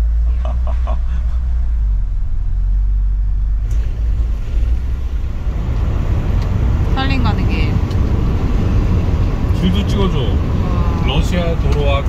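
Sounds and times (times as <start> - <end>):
engine rumble inside a van: 0.0 - 12.0
road noise: 0.0 - 12.0.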